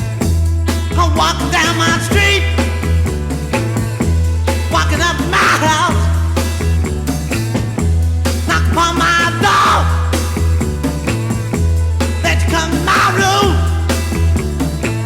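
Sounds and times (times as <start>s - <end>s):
repeating bass riff: 0.0s - 15.0s
rock band playing: 0.0s - 15.0s.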